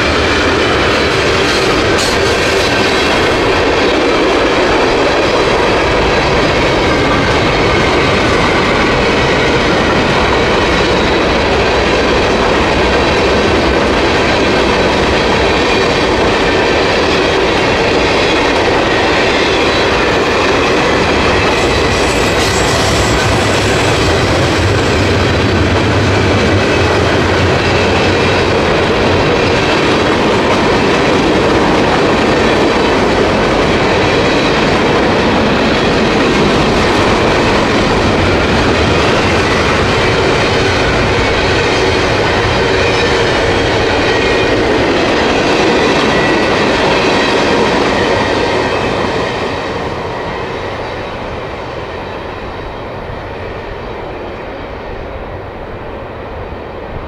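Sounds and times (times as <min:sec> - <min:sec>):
train wheels clattering on rails: 0:00.0 - 0:55.1.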